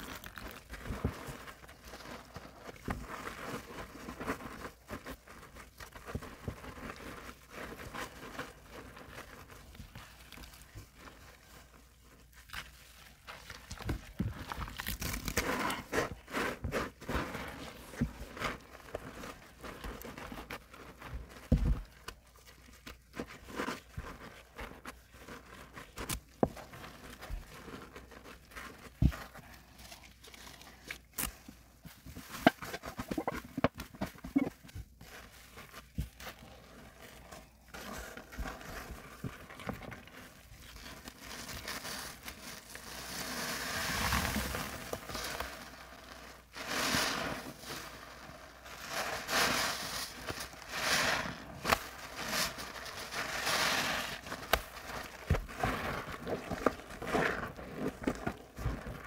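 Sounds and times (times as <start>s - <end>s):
wet sponges squishing: 0.0s - 59.0s.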